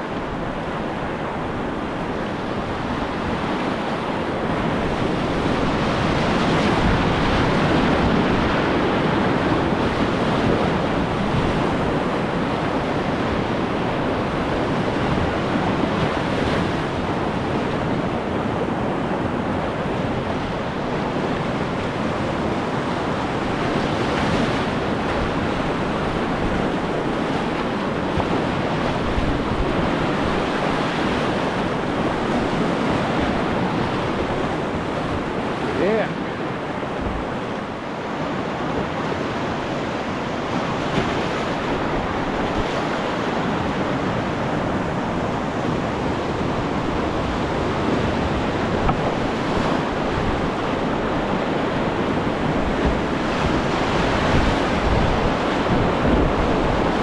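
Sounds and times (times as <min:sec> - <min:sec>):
whitewater rapids rushing: 0:00.0 - 0:57.0.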